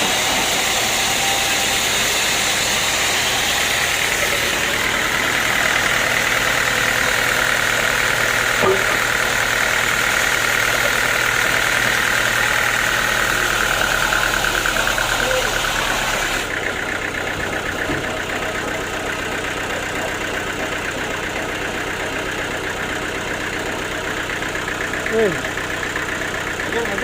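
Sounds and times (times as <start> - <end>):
sawmill machinery high whine: 0.0 - 27.0.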